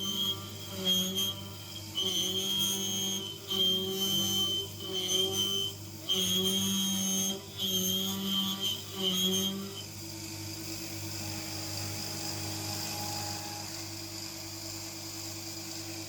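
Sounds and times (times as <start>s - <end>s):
milling machine whine: 0.0s - 16.0s.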